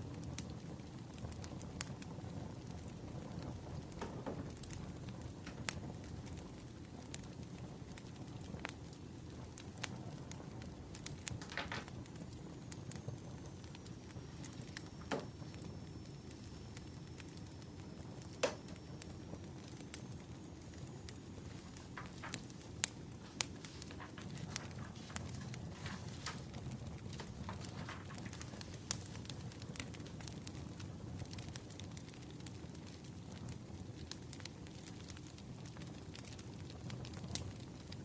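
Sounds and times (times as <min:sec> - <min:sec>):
firewood crackling and popping: 0:00.0 - 0:38.0
low fire rumble: 0:00.0 - 0:38.0.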